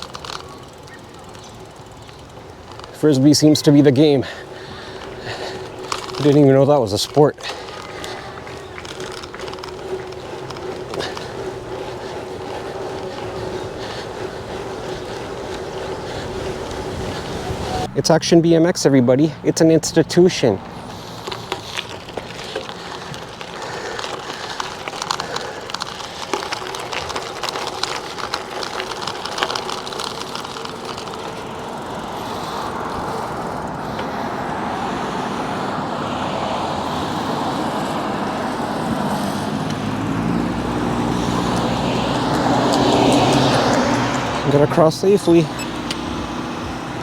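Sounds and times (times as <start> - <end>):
vehicle approaching: 0.0 - 47.0.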